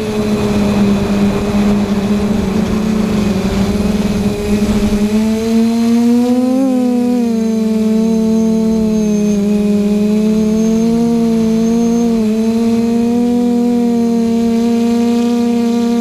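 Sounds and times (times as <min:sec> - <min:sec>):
quadcopter motors buzzing: 0:00.0 - 0:16.0.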